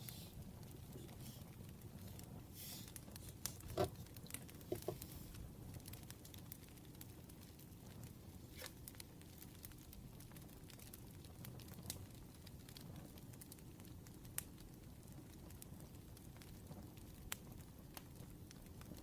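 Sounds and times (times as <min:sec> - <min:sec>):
low steady fire rumble: 0:00.0 - 0:19.0
sharp fire pops and snaps: 0:00.0 - 0:19.0
wood fire crackling: 0:00.0 - 0:19.0.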